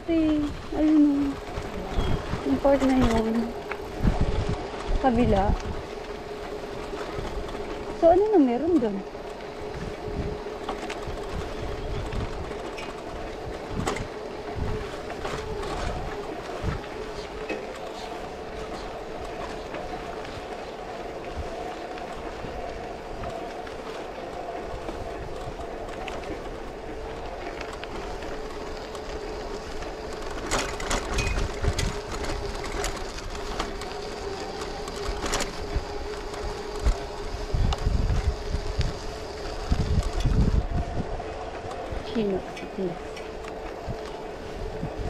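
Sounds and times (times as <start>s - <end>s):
electric bike motor whining: 0.0s - 45.0s
tyres rolling on gravel: 0.0s - 45.0s
wind rumble on microphone: 0.0s - 45.0s.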